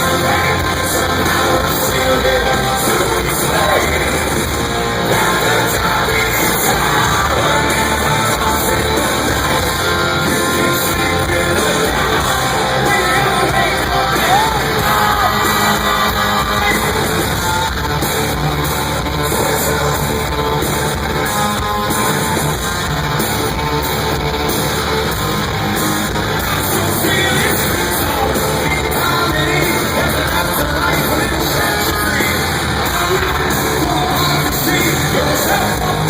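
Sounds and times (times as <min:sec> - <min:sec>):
person singing: 0:00.0 - 0:23.0, 0:26.4 - 0:36.0
electric guitar: 0:00.0 - 0:36.0
rock band playing live: 0:00.0 - 0:36.0.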